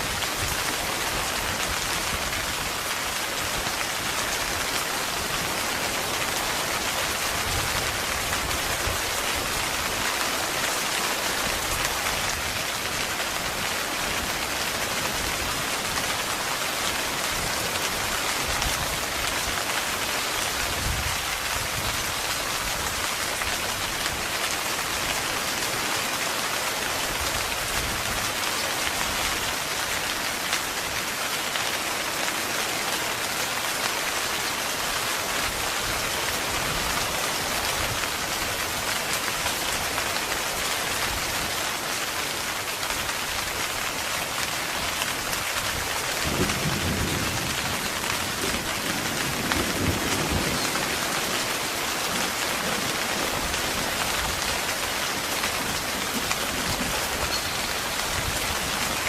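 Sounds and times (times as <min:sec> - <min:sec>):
heavy rain on tent fabric: 0:00.0 - 0:59.0.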